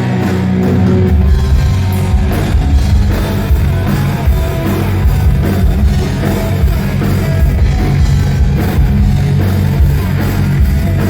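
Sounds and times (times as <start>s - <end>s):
hard rock music: 0.0s - 11.0s.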